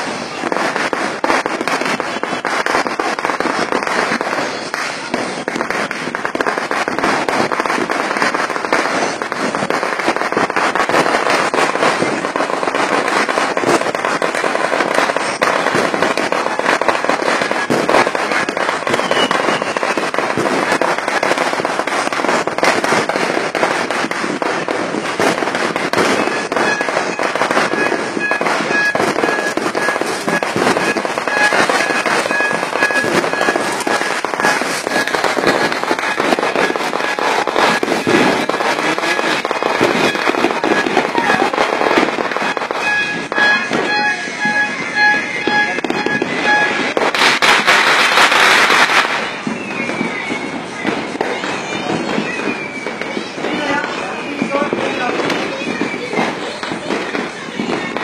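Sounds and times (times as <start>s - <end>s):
firecrackers and fireworks crackling: 0.0s - 58.0s.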